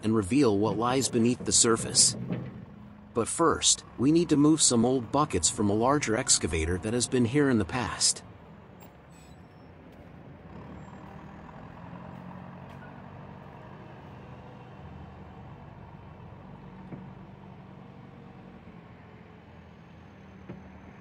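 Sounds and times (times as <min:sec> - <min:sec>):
distant backhoe diesel engine: 0:00.0 - 0:21.0.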